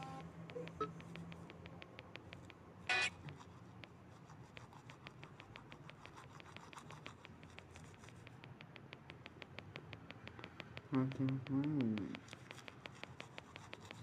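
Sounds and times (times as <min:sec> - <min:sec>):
rapid faint clicks: 0:00.0 - 0:14.0.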